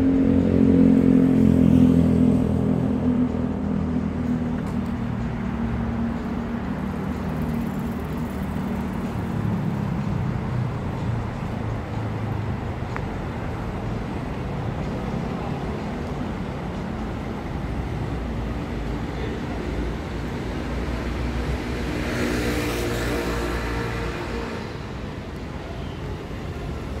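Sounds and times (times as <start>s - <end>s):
traffic rumbling past: 0.0s - 27.0s.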